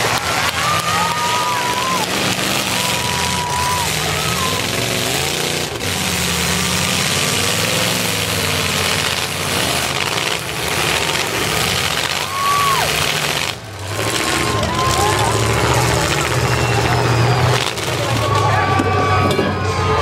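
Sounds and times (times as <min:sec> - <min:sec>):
car engines running: 0:00.0 - 0:20.0.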